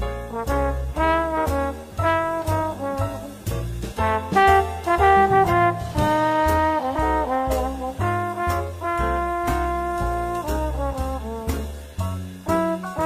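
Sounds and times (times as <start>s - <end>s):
jazzy brass music: 0.0s - 13.0s.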